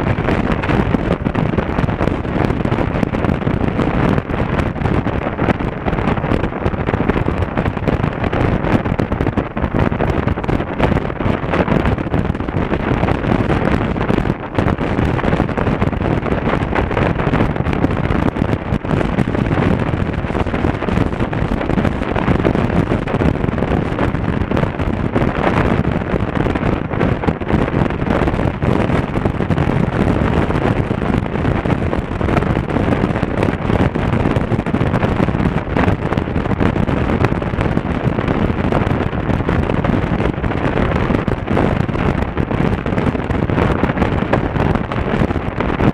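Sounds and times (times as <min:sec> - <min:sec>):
road noise: 0:00.0 - 0:45.9
wind rushing over microphone: 0:00.0 - 0:45.9.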